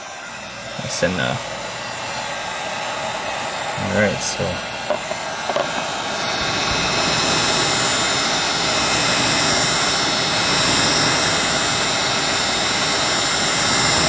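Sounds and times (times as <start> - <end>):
heat gun blowing air: 0.0 - 14.0.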